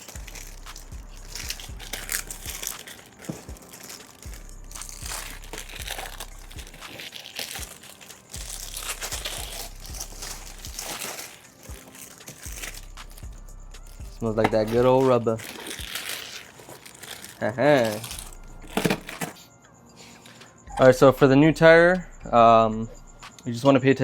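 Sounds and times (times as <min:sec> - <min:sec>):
plastic wrapping crinkling: 0:00.0 - 0:19.4.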